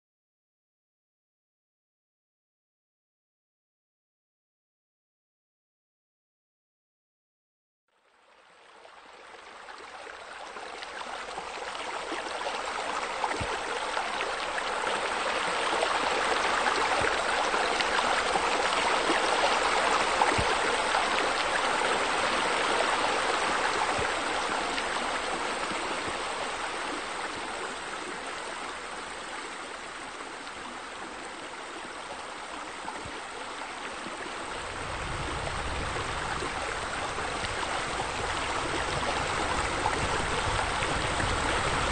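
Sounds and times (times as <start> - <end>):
flowing water rushing: 8.3 - 41.9.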